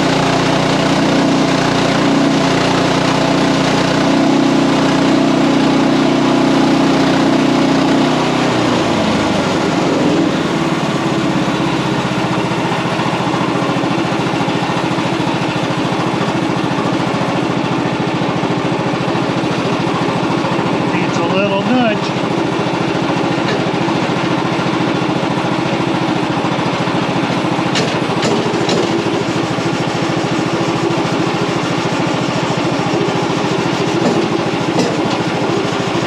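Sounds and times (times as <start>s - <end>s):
small gasoline engine running: 0.0s - 36.0s.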